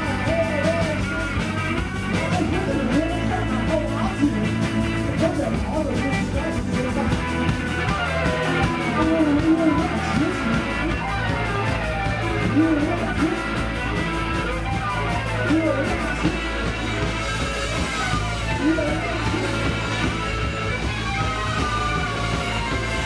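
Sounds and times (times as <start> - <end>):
drum kit: 0.0 - 23.0
electric guitar: 0.0 - 23.0.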